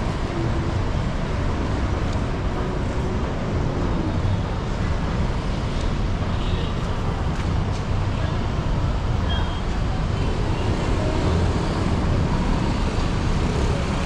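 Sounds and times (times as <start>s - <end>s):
traffic noise rumble: 0.0s - 14.0s.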